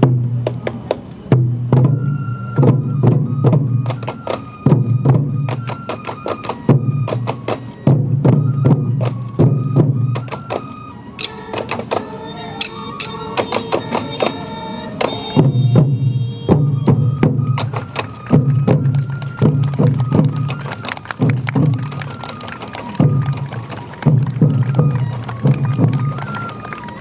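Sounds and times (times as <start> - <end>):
bamboo flute melody: 0.0 - 27.0
taiko drums: 0.0 - 27.0.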